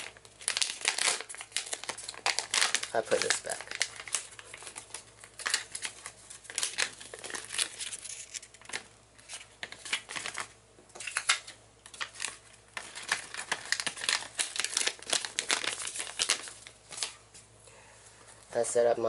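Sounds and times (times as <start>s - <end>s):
plastic packaging crinkling: 0.0s - 17.2s.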